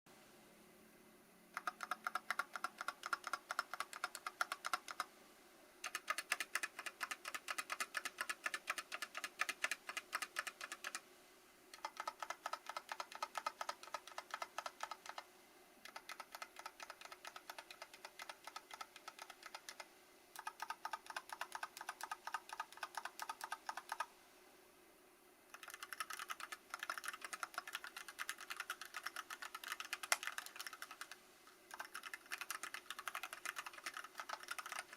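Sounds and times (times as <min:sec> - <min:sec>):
fast typing on mechanical keyboard: 0:01.6 - 0:05.1, 0:05.8 - 0:11.0, 0:11.8 - 0:15.2, 0:15.8 - 0:24.1, 0:25.5 - 0:34.9.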